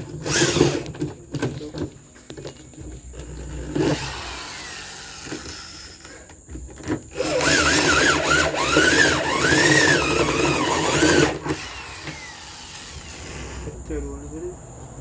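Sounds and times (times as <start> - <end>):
power drill boring through metal: 0.0 - 1.7, 3.1 - 13.9.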